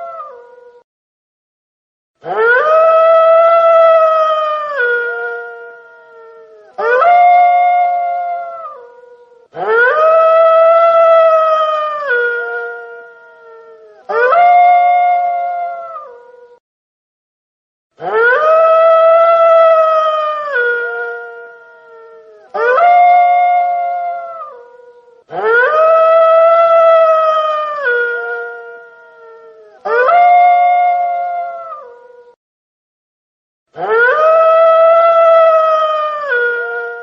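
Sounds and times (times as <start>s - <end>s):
wolf howling: 0.0s - 0.8s, 2.2s - 16.6s, 18.0s - 32.4s, 33.8s - 37.0s.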